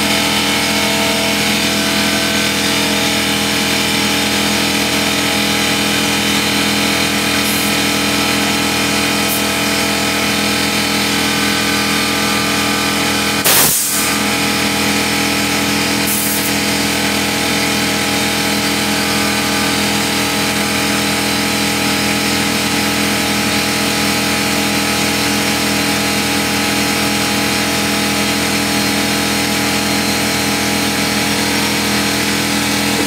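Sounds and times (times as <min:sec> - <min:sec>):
air compressor running: 0:00.0 - 0:33.0.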